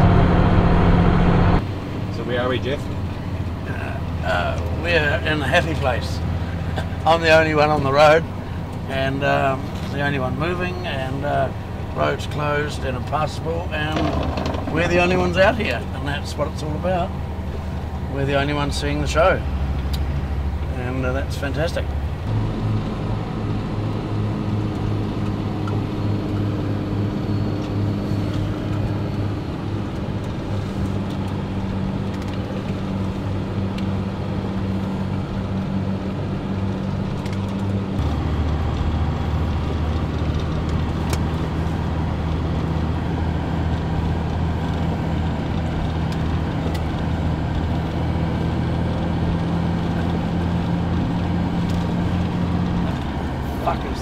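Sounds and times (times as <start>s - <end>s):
car engine drone: 0.0s - 54.0s
road noise inside car: 0.0s - 54.0s.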